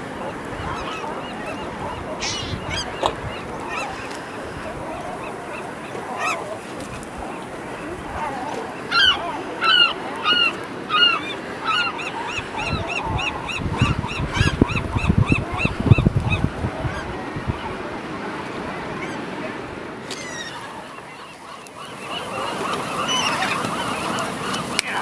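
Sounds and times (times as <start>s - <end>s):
gulls calling: 0.0s - 25.0s.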